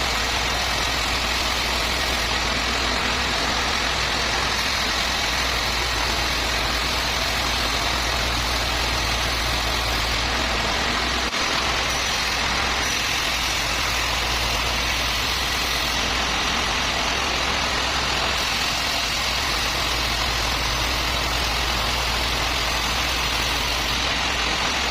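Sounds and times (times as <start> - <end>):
sawmill machinery humming: 0.0 - 24.9.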